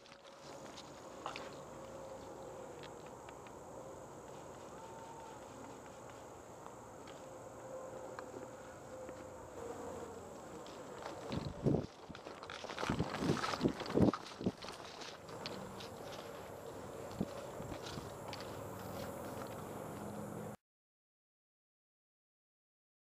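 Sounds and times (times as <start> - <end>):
insects trilling in grass: 0.0 - 20.6.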